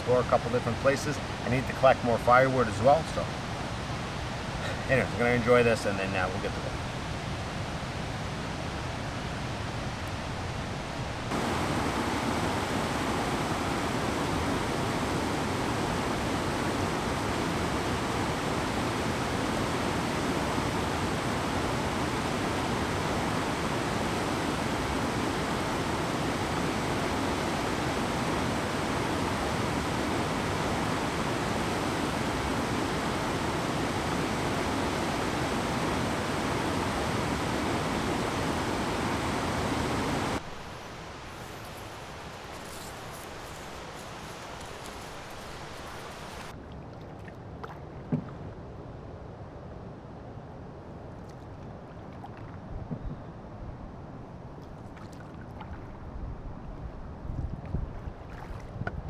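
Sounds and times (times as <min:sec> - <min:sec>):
river water rushing: 0:00.0 - 0:49.4.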